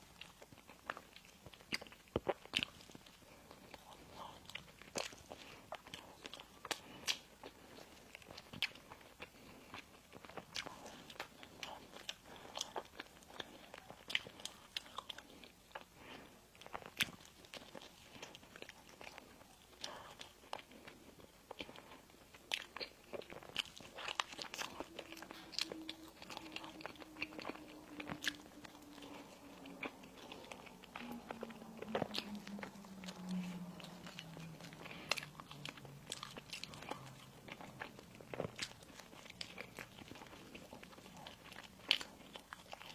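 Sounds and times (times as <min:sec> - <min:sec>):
crunching and chewing pastry: 0:00.0 - 0:42.9
soft mouth sounds: 0:00.0 - 0:42.9.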